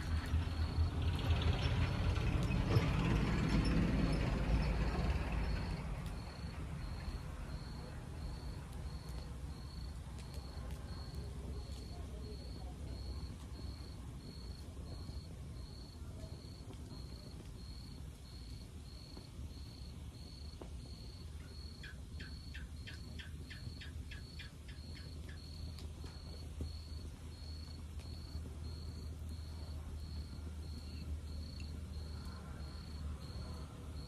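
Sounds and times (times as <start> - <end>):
log fire rumbling and crackling: 0.0 - 34.0.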